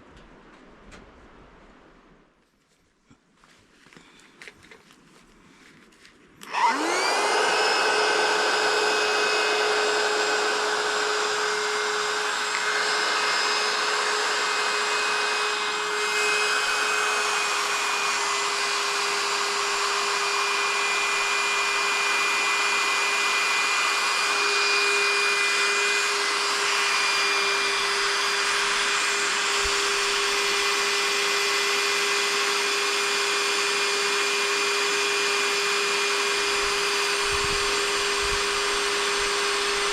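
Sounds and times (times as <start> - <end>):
electric motor whining: 6.4 - 39.9.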